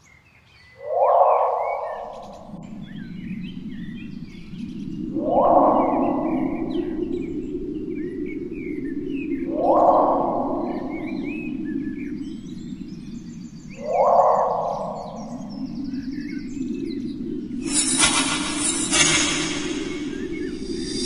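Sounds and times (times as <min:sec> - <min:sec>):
small birds chirping: 0:00.0 - 0:21.0
magical whoosh: 0:00.8 - 0:12.6, 0:13.6 - 0:21.0.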